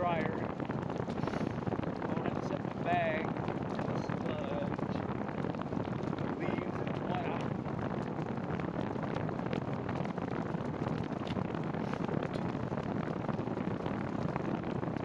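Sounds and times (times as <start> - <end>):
bicycle tyres rolling on wet trail: 0.0 - 15.0
wind on microphone: 0.0 - 15.0.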